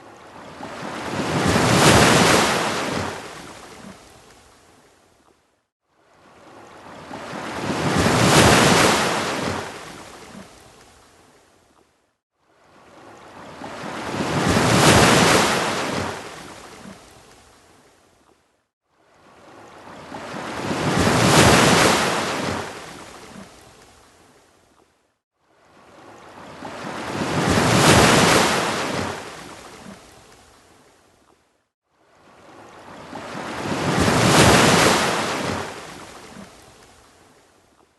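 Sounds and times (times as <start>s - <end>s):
ocean waves breaking on beach: 0.0s - 4.9s, 5.9s - 11.5s, 12.4s - 18.0s, 18.9s - 24.5s, 25.4s - 31.0s, 31.9s - 37.6s.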